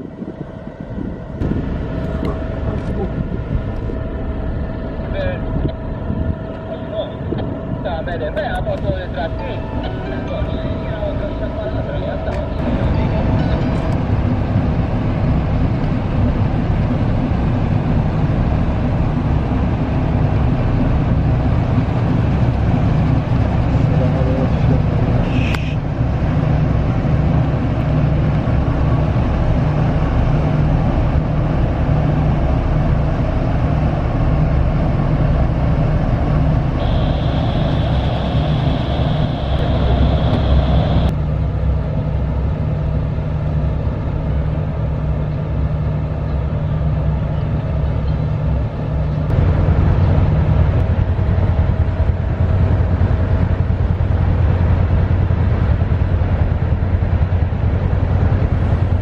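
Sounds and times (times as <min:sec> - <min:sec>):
low engine rumble: 0:00.0 - 0:59.0.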